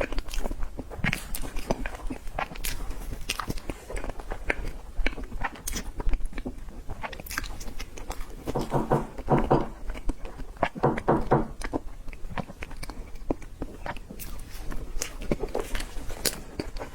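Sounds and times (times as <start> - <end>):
wet mouth chewing smacks: 0.0 - 8.6, 11.5 - 16.9.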